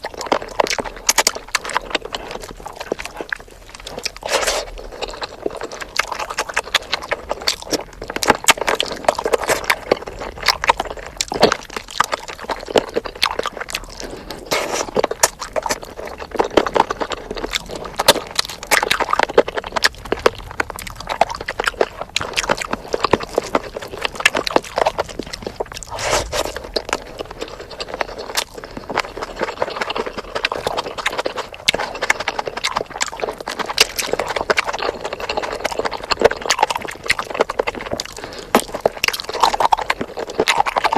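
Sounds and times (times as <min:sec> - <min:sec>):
biting clicks and snaps: 0:00.0 - 0:40.9
chewing and crunching food: 0:00.0 - 0:40.9.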